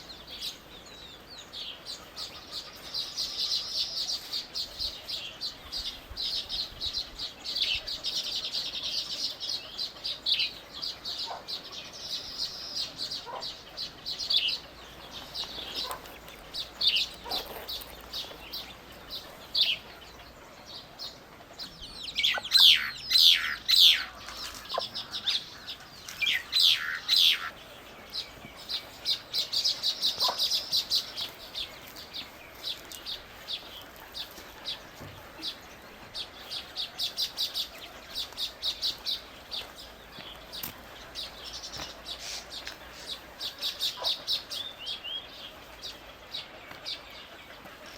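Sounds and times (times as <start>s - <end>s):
falling bird calls: 0.0s - 47.9s
small birds chirping: 0.0s - 47.9s.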